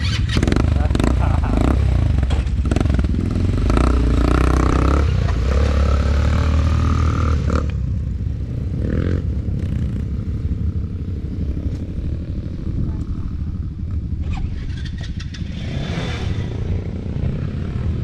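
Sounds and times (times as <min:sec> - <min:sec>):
atv engine under throttle: 0:00.0 - 0:18.0.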